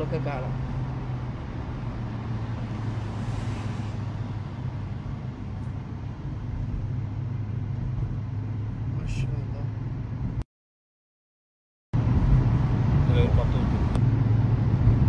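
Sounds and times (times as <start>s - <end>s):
car engine and road noise: 0.0s - 10.4s, 12.0s - 15.0s.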